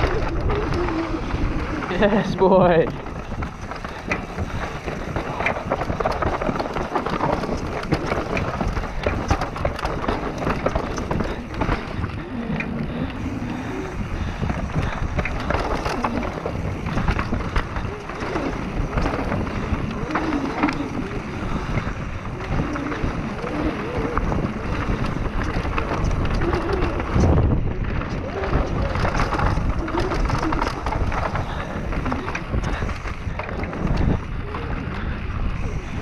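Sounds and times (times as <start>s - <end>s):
bike rattling over bumps: 0.0s - 36.0s
tyres on loose dirt: 0.0s - 36.0s
wind rushing over microphone: 0.0s - 36.0s.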